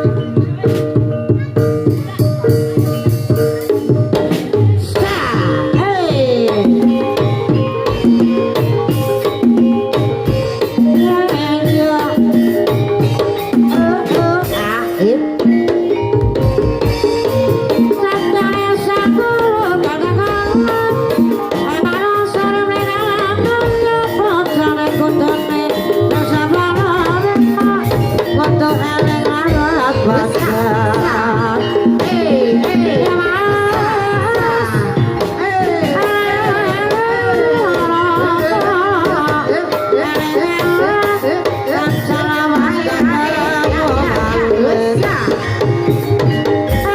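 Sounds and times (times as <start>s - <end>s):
gamelan music: 0.0s - 46.9s
hand drum patterns: 0.0s - 46.9s
person singing: 1.4s - 16.2s, 16.8s - 46.9s.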